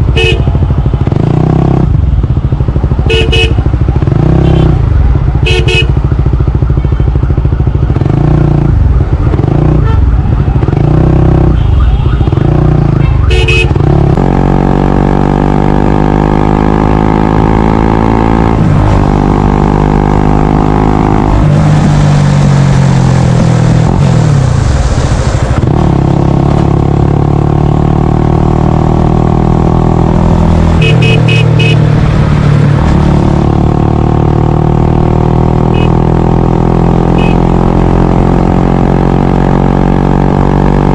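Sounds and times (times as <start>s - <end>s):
motorcycle engine revving: 0.0s - 24.8s, 25.5s - 40.9s.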